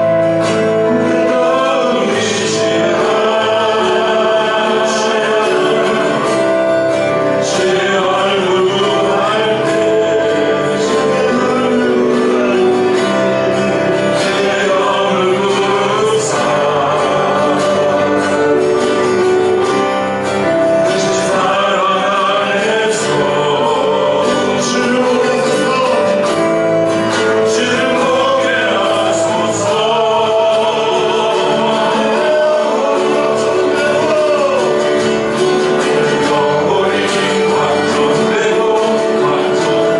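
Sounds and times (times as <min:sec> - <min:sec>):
group singing worship song: 0:00.0 - 0:39.9
instrumental accompaniment: 0:00.0 - 0:39.9.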